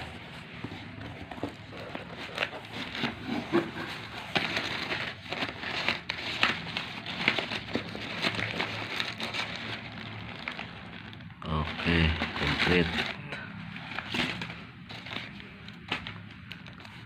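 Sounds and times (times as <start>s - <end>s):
plastic packaging crinkling: 1.6s - 17.0s.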